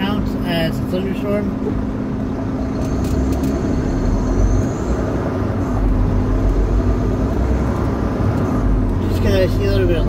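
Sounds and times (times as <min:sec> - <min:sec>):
diesel truck engine drone: 0:00.0 - 0:10.0
road noise: 0:00.0 - 0:10.0.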